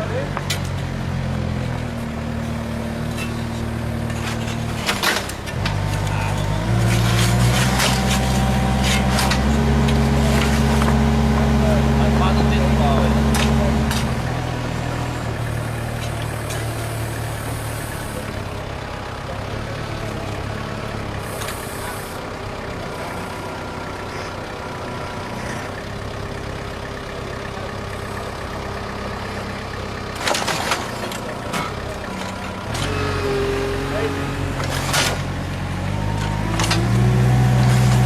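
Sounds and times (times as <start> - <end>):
heavy machine engine running: 0.0 - 38.0.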